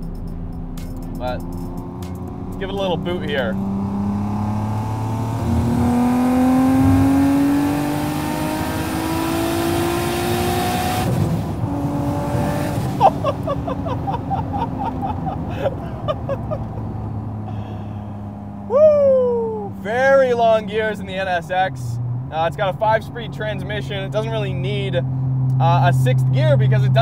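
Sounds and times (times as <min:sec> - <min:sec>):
car engine revving: 0:00.0 - 0:27.0
turbo and intake rush: 0:00.0 - 0:27.0.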